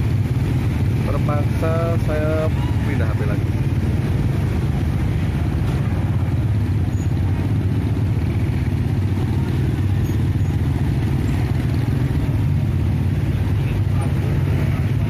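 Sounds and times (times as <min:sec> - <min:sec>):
motorcycles: 0:00.0 - 0:15.0
truck engine rumbling: 0:00.0 - 0:15.0.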